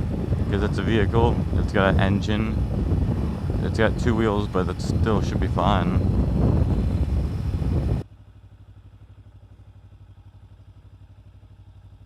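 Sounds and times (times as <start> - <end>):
motorcycle engine idling: 0.0 - 12.0
rush of wind and engine: 0.0 - 12.0.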